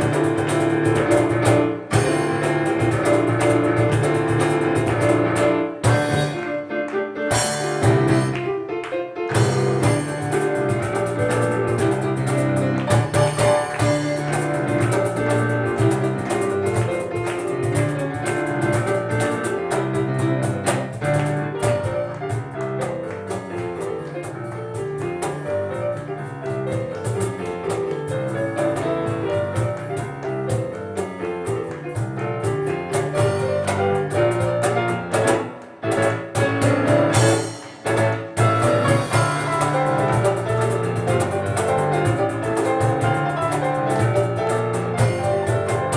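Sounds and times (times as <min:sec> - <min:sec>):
cajon strikes: 0:00.0 - 0:45.9
fast piano lines: 0:00.0 - 0:45.9.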